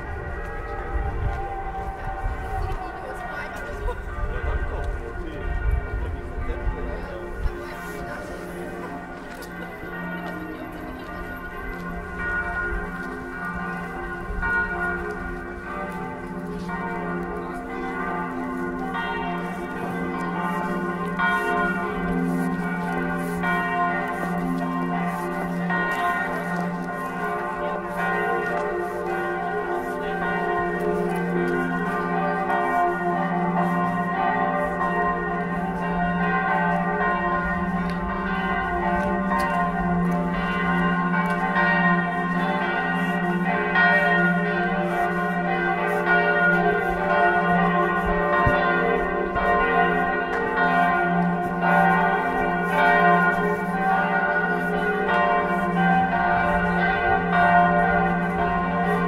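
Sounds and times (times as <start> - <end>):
church bells pealing: 0.0 - 59.0.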